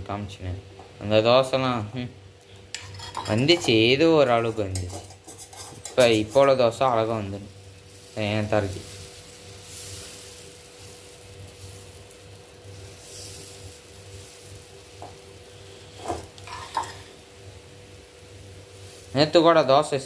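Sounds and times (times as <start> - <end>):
batter sizzling on a hot griddle: 2.4 - 20.0.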